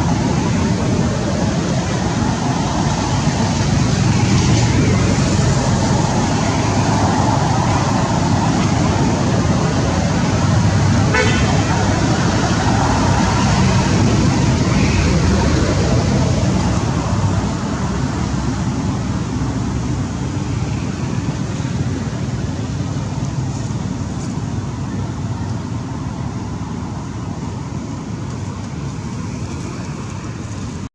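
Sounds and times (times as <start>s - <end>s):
roadside traffic rumbling: 0.0s - 30.9s.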